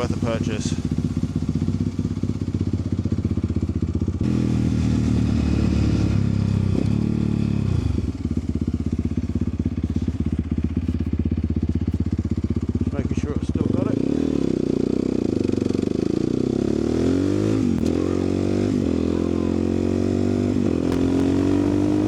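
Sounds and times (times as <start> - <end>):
vehicle engine idling and revving: 0.0 - 22.0.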